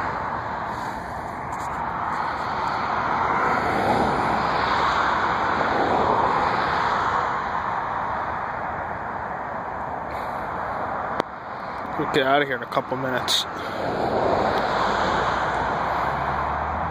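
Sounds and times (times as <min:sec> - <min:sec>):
jet aircraft engine rush: 0:00.0 - 0:16.9.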